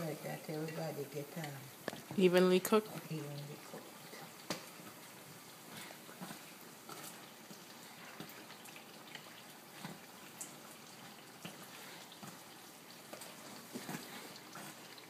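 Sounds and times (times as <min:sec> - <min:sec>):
frying sizzle with pops: 0:00.0 - 0:15.0.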